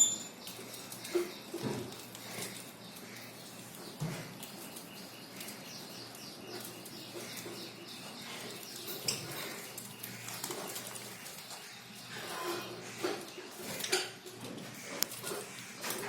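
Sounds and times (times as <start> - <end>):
birds clicking and rustling: 0.0 - 16.0.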